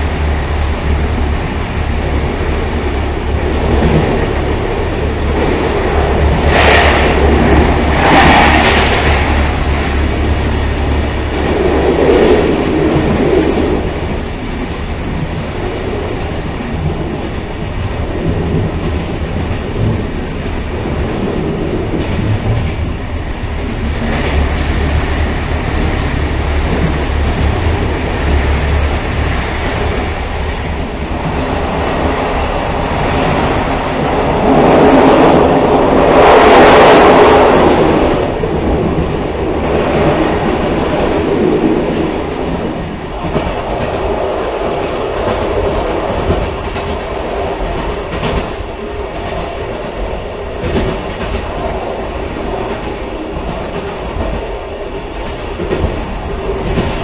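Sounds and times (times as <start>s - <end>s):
railcar rumbling on track: 0.0s - 57.0s
rushing noise: 0.0s - 57.0s.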